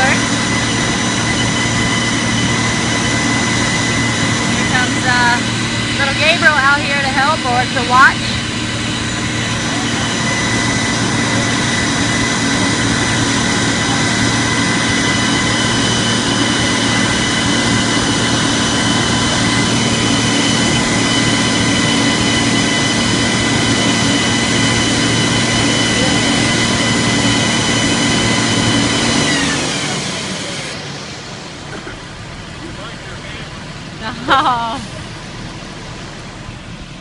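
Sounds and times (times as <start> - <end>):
diesel truck engine whining: 0.0 - 37.0.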